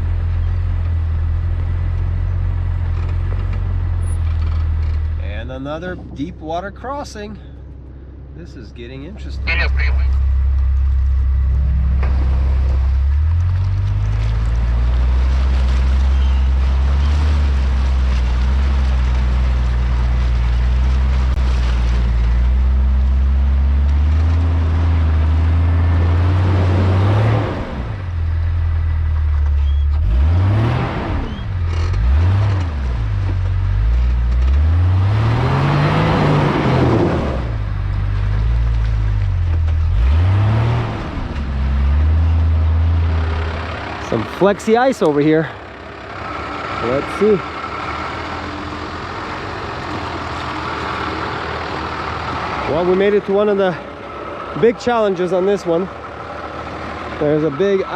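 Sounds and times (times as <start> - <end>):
off-road engine pulling under load: 0.0 - 57.9
engine revving: 8.4 - 57.9.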